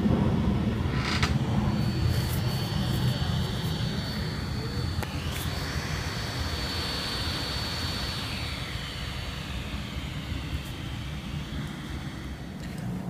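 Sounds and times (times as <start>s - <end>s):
laptop cooling fan whine: 0.0s - 13.0s.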